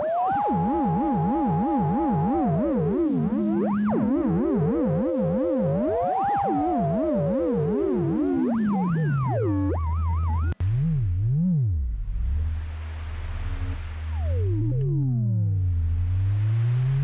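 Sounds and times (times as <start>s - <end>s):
synthesizer gliding note: 0.2s - 16.1s
low warbling synthesizer tone: 0.2s - 17.0s.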